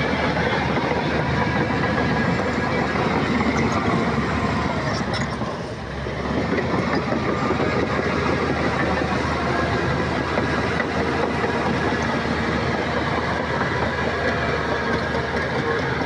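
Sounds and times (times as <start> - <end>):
diesel engine running: 0.0 - 16.0
steel tracks clattering: 0.0 - 16.0.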